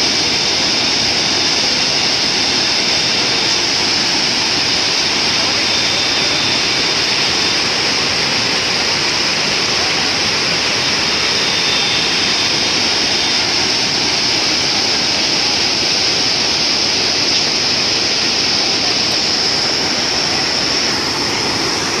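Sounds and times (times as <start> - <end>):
whitewater rushing: 0.0 - 22.0.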